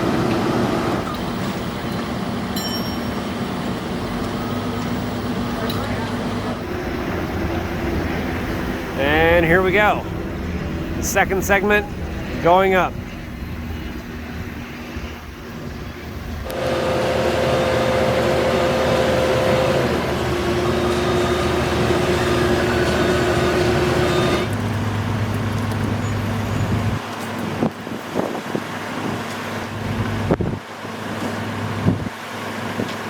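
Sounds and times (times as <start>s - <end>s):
crane engine and hoist running: 0.0s - 33.0s.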